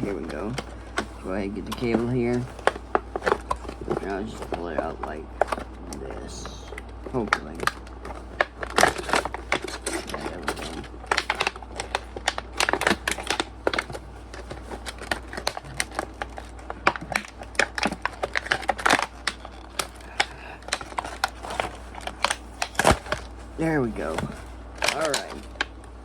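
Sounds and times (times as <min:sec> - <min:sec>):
plastic packaging crackling and snapping: 0:00.0 - 0:26.0.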